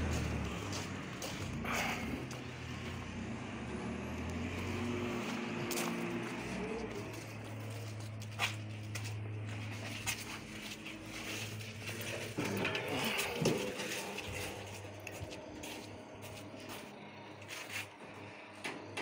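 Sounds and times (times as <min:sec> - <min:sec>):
electric gate motor humming: 0:00.0 - 0:19.0.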